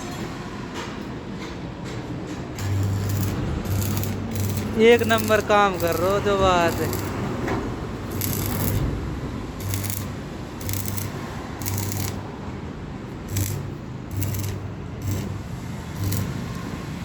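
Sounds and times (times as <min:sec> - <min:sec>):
arc welding crackling: 0:02.6 - 0:12.5, 0:13.1 - 0:17.0
low electrical hum: 0:02.6 - 0:17.0.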